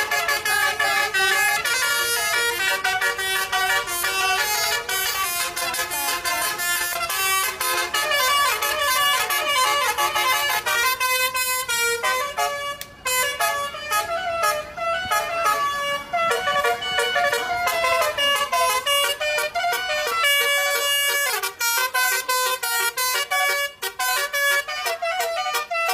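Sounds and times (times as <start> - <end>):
multi-tone air horn melody: 0.0 - 25.9.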